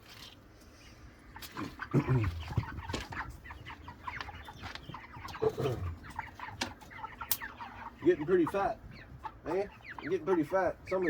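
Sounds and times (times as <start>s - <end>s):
chickens clucking and peeping: 0.0s - 11.0s.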